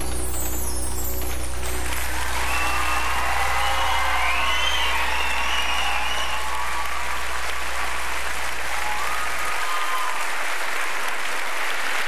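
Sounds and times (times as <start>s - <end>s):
studio audience applauding: 0.0s - 12.0s.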